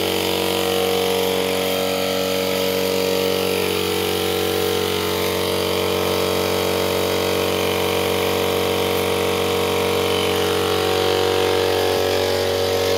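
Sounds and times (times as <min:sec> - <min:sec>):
air compressor running: 0:00.0 - 0:12.9.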